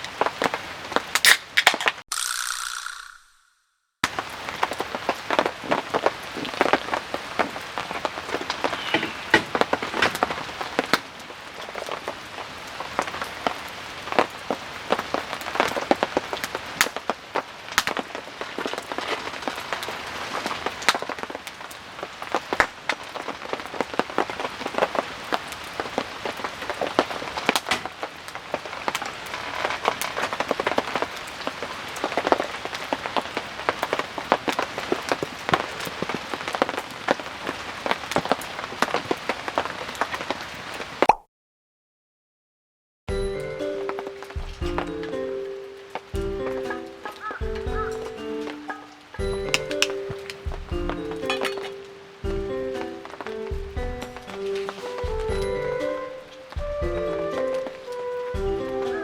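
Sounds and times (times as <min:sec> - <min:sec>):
steady rain: 0:00.0 - 0:02.0, 0:04.0 - 0:41.1, 0:43.1 - 0:59.0
raindrops striking surface: 0:00.0 - 0:03.3, 0:04.0 - 0:41.1, 0:43.1 - 0:59.0.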